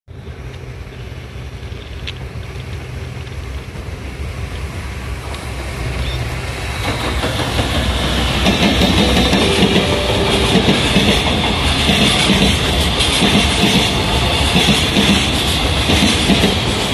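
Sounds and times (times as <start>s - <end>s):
freight train wheels rumbling: 0.1s - 16.9s.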